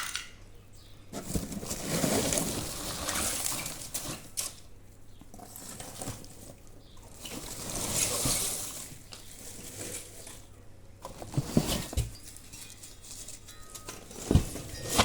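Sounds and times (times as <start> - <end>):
packaging rustling and scraping: 1.1 - 4.7, 5.3 - 15.0.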